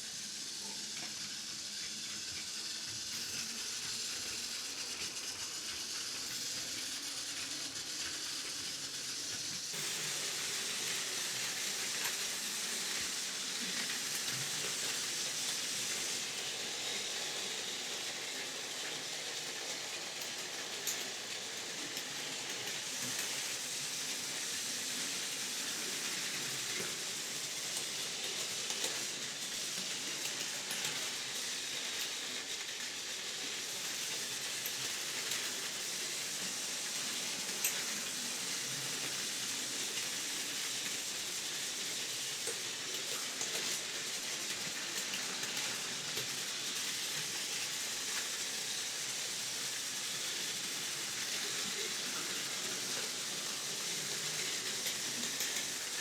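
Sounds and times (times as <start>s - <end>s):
toy trains whirring: 0.0s - 56.0s.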